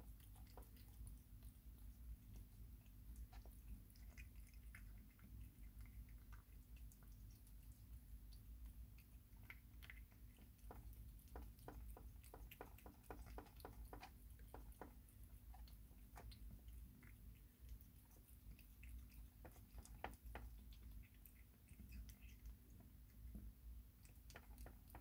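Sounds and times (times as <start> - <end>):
kitten chewing wet food: 0.0 - 25.0
low steady hum: 0.0 - 25.0.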